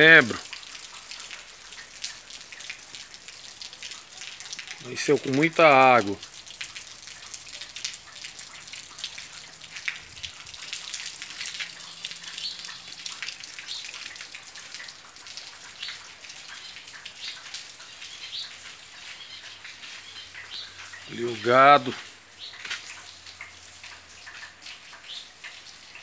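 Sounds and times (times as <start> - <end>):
rain falling: 0.0 - 26.0
raindrops ticking on surfaces: 0.0 - 26.0.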